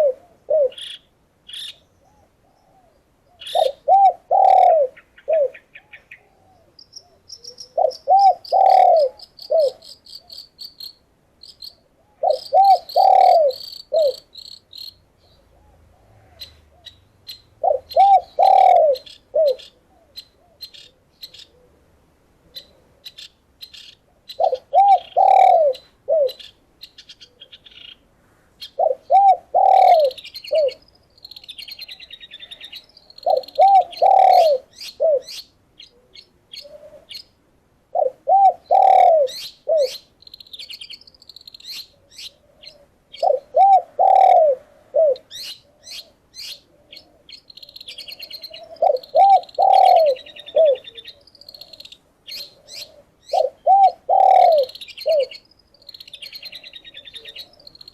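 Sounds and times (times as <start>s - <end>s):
dove cooing: 0.0s - 1.0s, 2.0s - 10.4s, 11.7s - 14.3s, 15.4s - 17.0s, 17.6s - 21.9s, 24.1s - 26.5s, 28.7s - 37.2s, 37.9s - 40.1s, 41.8s - 57.9s
songbirds chirping and trilling: 0.0s - 57.9s.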